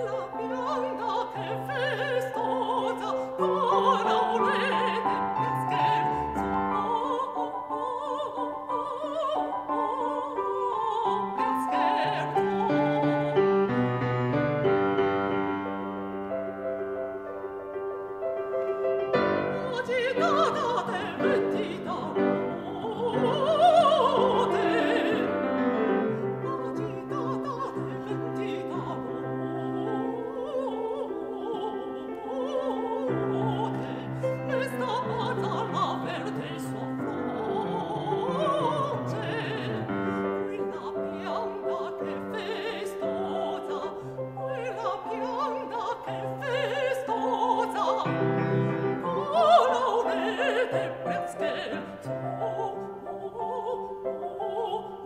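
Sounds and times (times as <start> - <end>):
woman singing operatically: 0.0 - 13.5, 19.4 - 55.0
piano accompaniment: 0.0 - 55.0.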